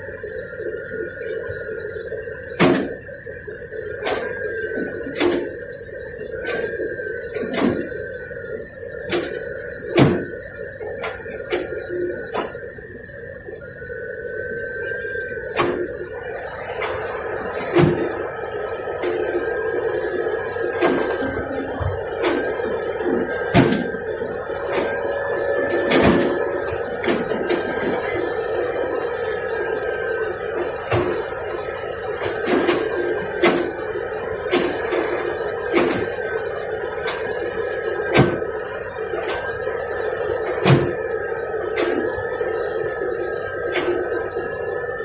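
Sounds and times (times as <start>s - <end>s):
excavator engine drone: 0.0s - 45.0s.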